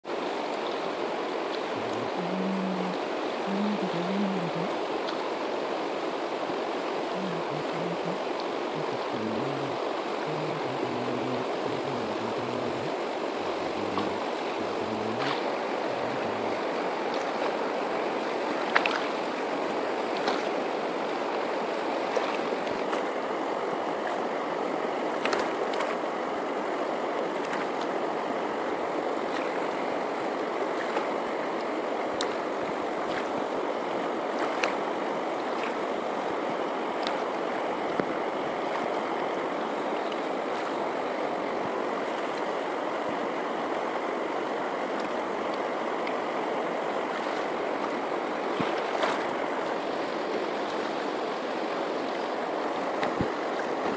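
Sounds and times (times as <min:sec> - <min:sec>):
river water rushing: 0:00.1 - 0:53.9.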